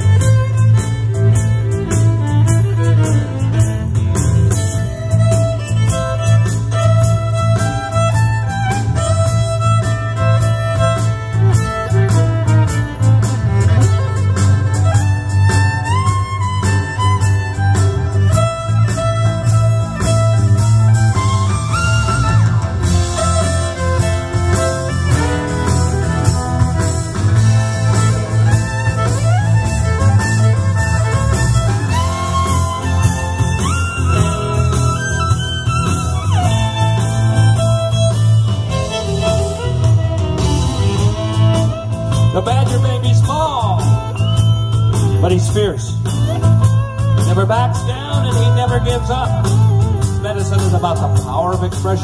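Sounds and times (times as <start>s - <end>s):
fiddle playing dance tune: 0.0s - 52.0s
steady beat and deep bass: 0.0s - 52.0s.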